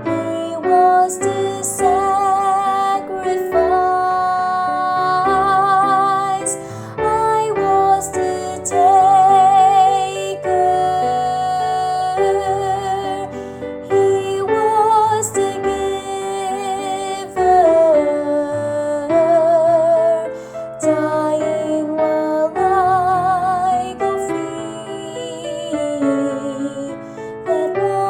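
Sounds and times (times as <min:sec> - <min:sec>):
piano accompaniment: 0:00.0 - 0:28.0
woman singing soprano: 0:00.0 - 0:28.0.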